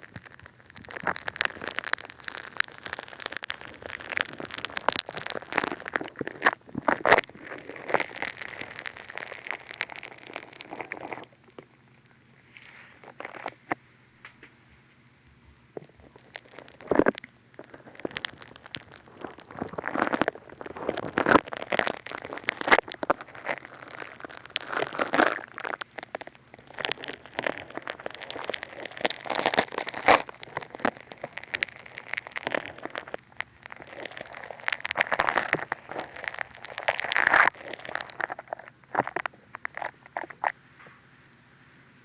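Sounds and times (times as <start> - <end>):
play foam crackling and squishing: 0.0 - 42.0.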